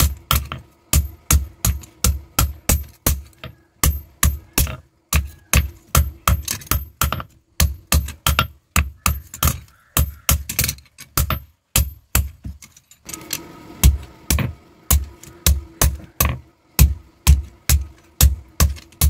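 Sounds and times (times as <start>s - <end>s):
hammer striking steel on anvil: 0.0s - 19.0s.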